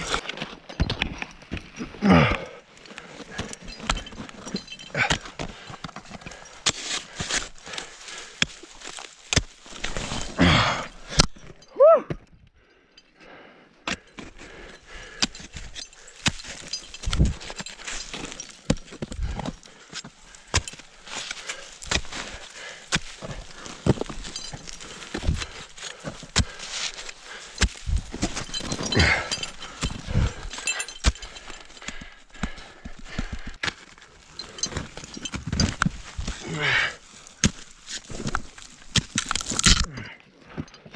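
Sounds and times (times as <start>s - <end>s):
ice axes striking snow: 0.0s - 11.5s, 13.9s - 39.9s
metal clicks and knocks on rock: 0.0s - 13.2s, 13.8s - 40.9s
climbing gear jangling: 1.9s - 9.1s, 14.0s - 39.9s.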